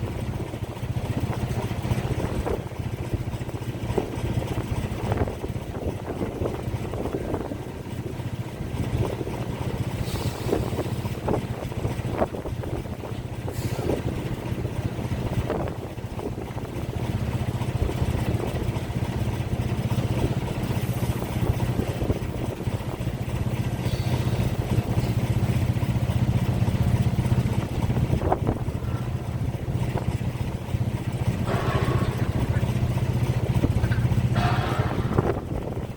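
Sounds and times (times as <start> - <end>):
heavy engines rumbling: 0.0 - 35.9.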